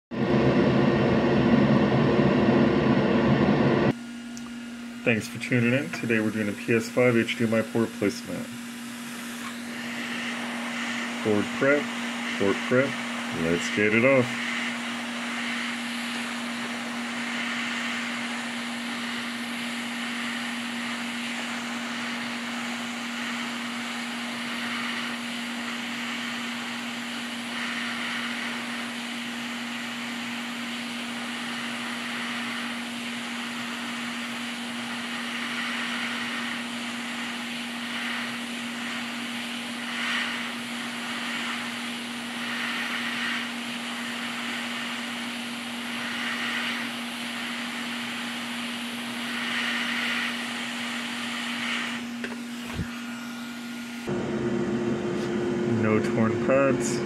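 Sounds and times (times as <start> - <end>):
hot air hissing: 0.2 - 57.0.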